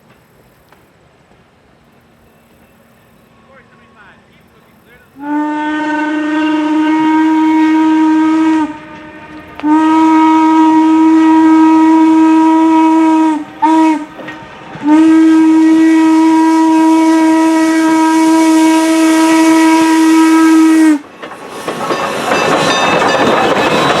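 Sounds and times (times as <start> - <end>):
steam hissing: 0.0 - 24.0
train noise: 0.0 - 24.0
steam locomotive whistle: 2.3 - 24.0.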